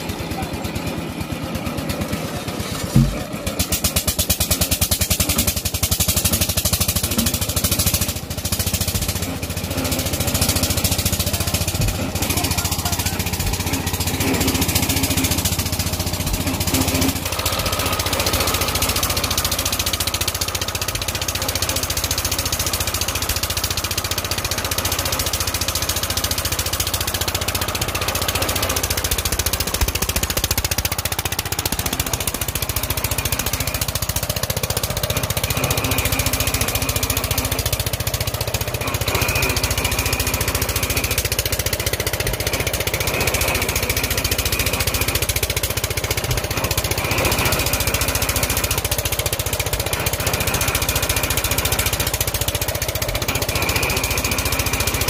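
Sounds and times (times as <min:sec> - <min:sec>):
rig engine running steadily: 0:00.0 - 0:55.0.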